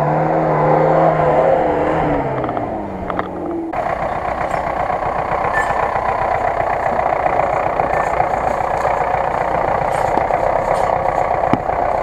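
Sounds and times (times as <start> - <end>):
truck engine running at low speed: 0.0 - 12.0.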